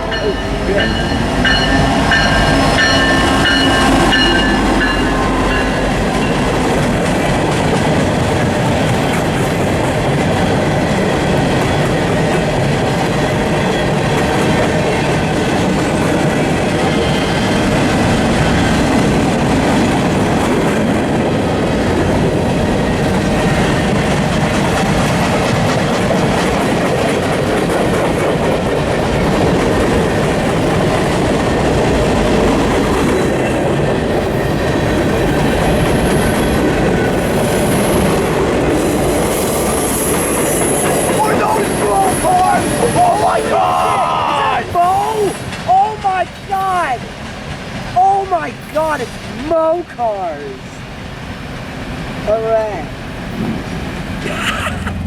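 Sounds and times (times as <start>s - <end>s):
train wheels clattering over rails: 0.0s - 49.4s.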